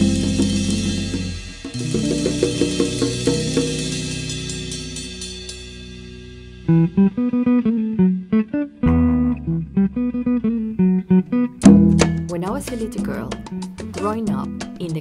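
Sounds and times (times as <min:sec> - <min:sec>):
low bass line: 0:00.0 - 0:14.8
plucked guitar melody: 0:00.0 - 0:15.0.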